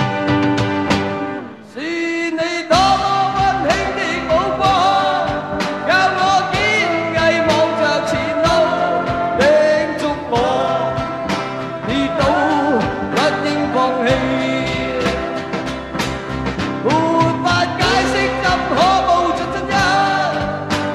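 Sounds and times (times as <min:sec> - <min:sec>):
strummed acoustic guitars: 0:00.0 - 0:01.8, 0:02.7 - 0:20.9
man singing into microphone: 0:01.6 - 0:15.5, 0:16.8 - 0:20.7.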